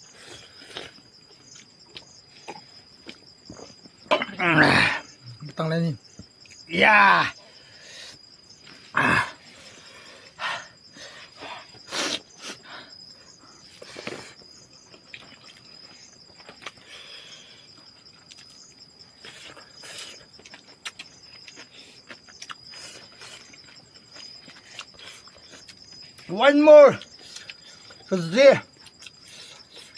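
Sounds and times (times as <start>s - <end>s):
insects chirring: 0.0s - 29.9s.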